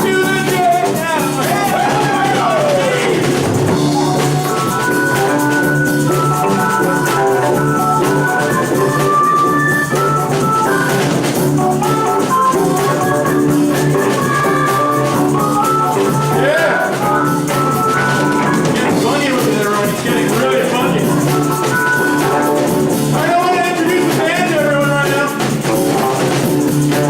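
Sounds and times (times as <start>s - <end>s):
drum kit beat: 0.0s - 27.0s
organ chords: 0.0s - 27.0s.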